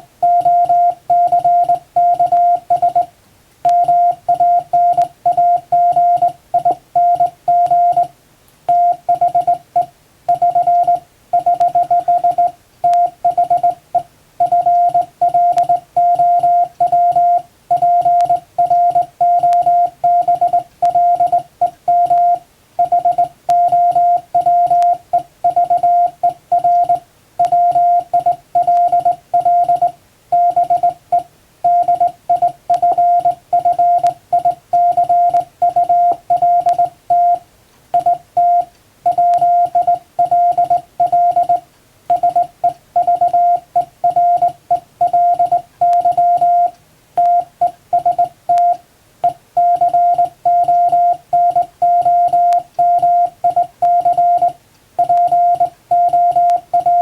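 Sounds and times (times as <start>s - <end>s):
morse code tone: 0.2s - 3.1s, 3.7s - 8.1s, 8.7s - 37.4s, 38.0s - 57.0s.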